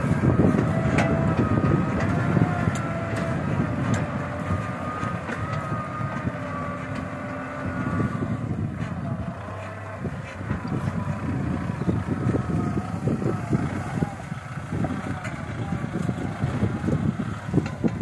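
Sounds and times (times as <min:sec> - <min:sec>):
tractor diesel engine rumbling: 0:00.0 - 0:18.0.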